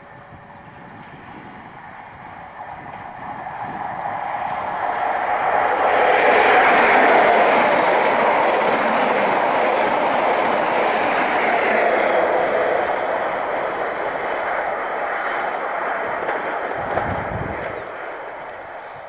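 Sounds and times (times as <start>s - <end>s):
high speed train passing: 0.0s - 19.0s.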